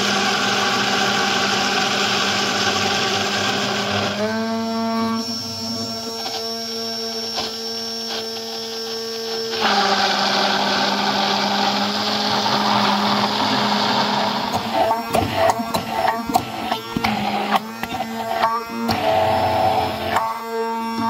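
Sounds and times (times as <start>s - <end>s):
stick blender running: 0.0s - 21.0s.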